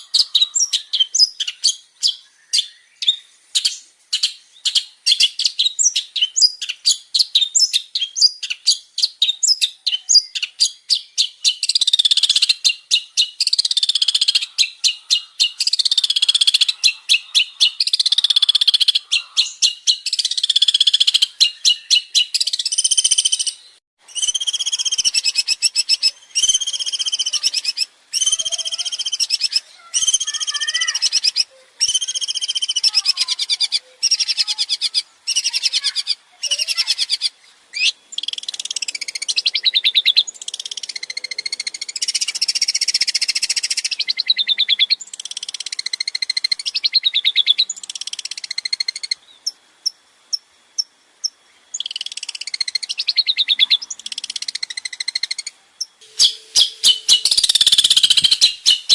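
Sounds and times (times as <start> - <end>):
shrike singing: 0.0 - 49.6, 50.3 - 58.9.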